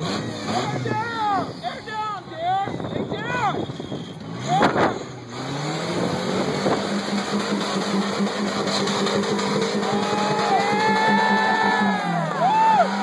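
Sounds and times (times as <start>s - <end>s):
buggy engine revving under load: 0.0s - 1.6s, 3.6s - 13.0s.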